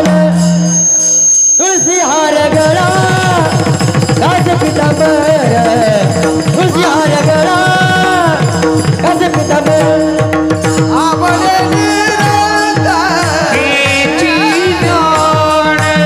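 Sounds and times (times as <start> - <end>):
devotional music: 0.0 - 16.0.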